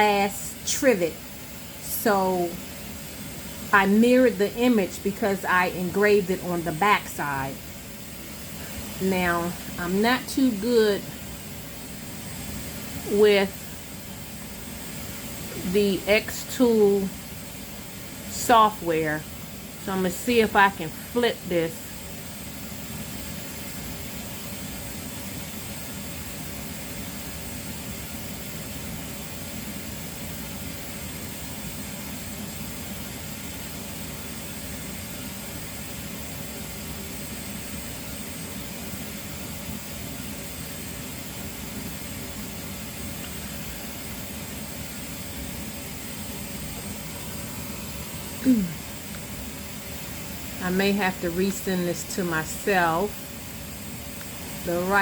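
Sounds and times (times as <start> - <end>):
faint hum: 0.0 - 55.0
steady background hiss: 0.0 - 55.0.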